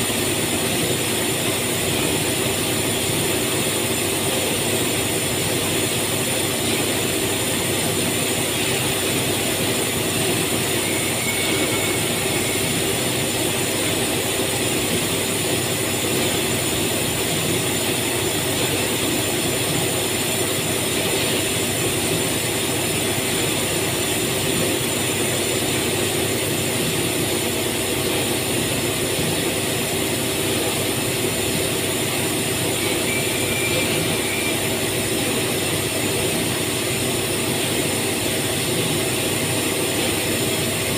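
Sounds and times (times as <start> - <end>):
factory machinery drone: 0.0 - 40.9.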